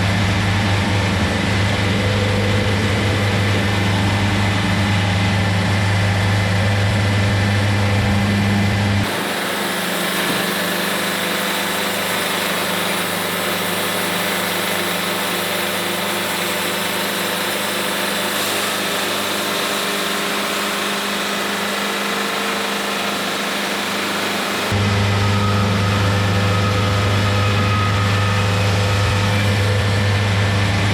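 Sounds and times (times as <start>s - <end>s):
sawmill machine hum: 0.0s - 30.9s.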